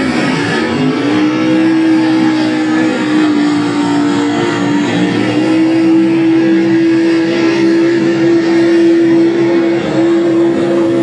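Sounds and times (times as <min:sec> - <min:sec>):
tires spinning through mud: 0:00.0 - 0:11.0
truck engine revving high: 0:00.0 - 0:11.0.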